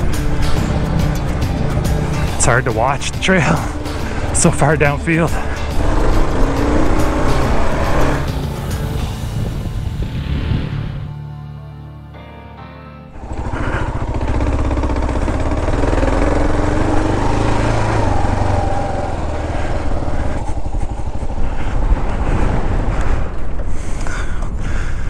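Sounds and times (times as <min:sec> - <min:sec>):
motorcycle engine running: 0:00.0 - 0:10.1, 0:13.1 - 0:24.3.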